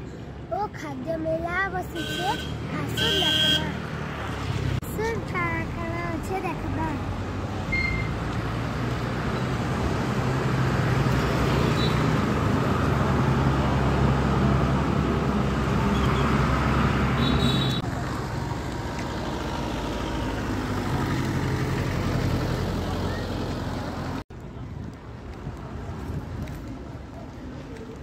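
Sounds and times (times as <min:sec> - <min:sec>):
vehicle engines humming: 0:00.0 - 0:28.0.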